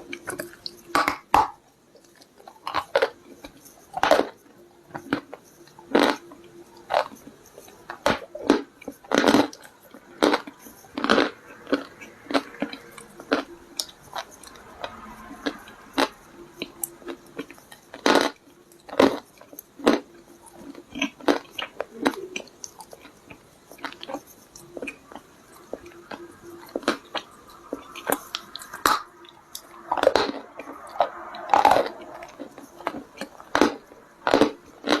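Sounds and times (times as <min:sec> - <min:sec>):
clay stones crunching between teeth: 0:00.1 - 0:35.0.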